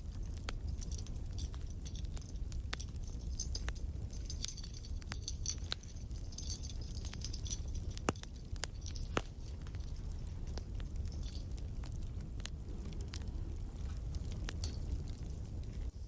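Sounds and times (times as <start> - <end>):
crackling wood fire: 0.0 - 16.0
decorations clinking and jingling: 0.0 - 16.0.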